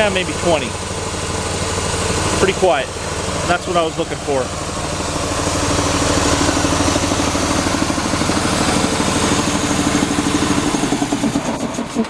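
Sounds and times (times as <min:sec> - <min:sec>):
air compressor engine running: 0:00.0 - 0:12.0.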